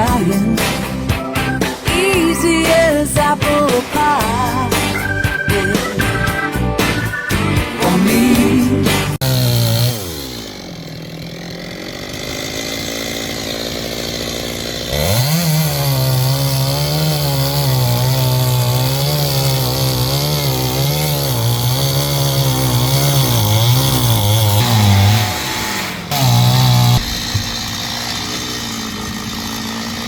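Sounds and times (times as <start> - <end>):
chainsaw revving and cutting wood: 0.0 - 30.0.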